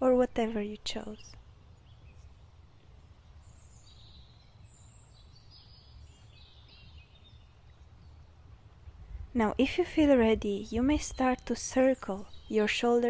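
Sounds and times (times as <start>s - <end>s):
low steady rumble: 0.0s - 12.5s
birds chirping: 0.2s - 13.0s.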